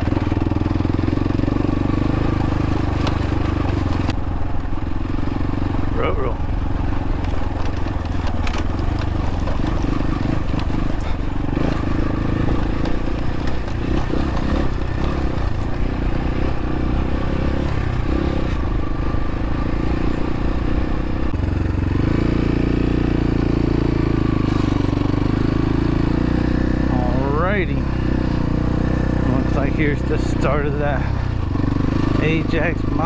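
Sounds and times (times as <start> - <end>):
dirt bike engine running: 0.0 - 33.0.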